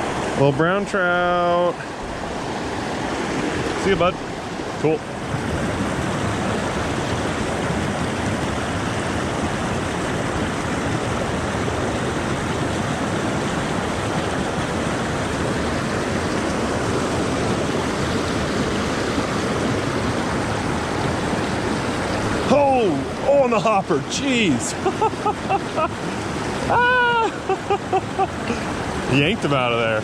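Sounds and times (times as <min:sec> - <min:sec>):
creek water rushing over rocks: 0:00.0 - 0:30.0.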